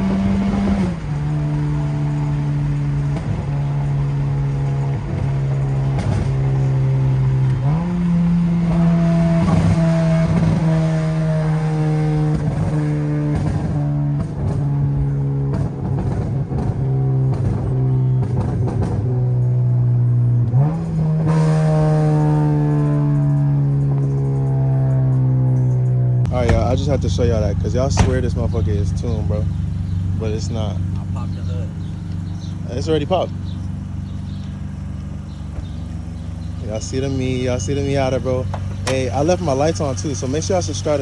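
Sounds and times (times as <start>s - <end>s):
car exhaust drone: 0.0s - 41.0s.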